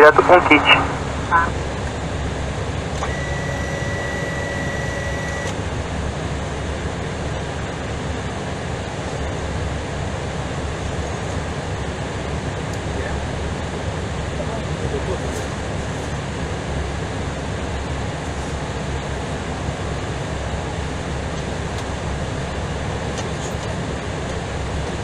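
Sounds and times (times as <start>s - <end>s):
engines and rushing air roar: 0.0s - 25.0s.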